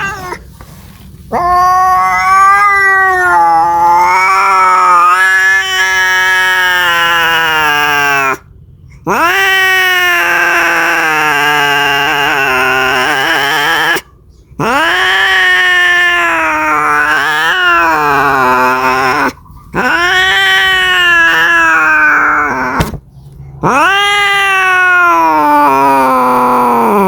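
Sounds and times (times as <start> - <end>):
cat yowling: 0.0 - 0.5, 1.3 - 8.4, 9.1 - 23.0, 23.6 - 27.0.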